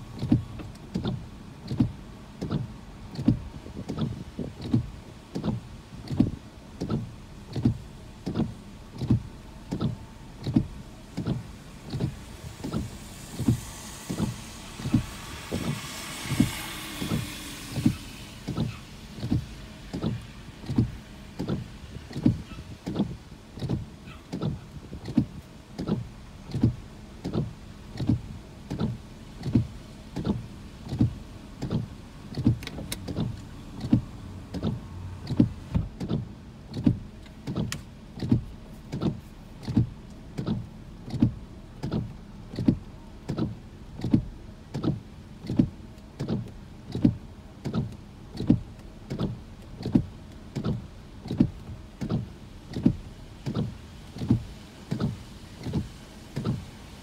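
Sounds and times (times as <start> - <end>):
car passing on wet road: 0.0 - 57.0
windshield wipers thumping: 0.0 - 57.0.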